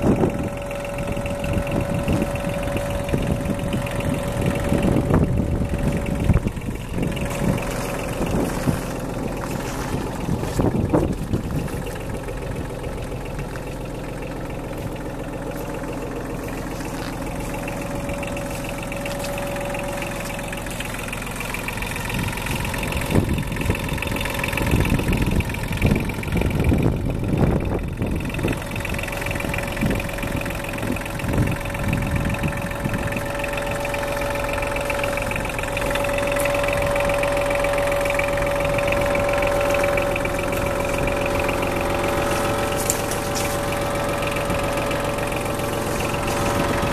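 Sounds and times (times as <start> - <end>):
diesel engine idling: 0.0 - 46.9
irregular rumbles and knocks: 0.0 - 46.9.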